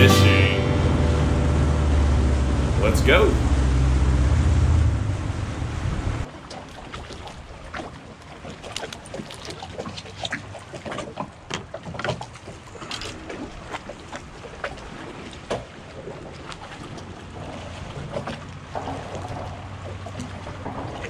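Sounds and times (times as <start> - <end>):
water lapping against boat hull: 3.5 - 21.0.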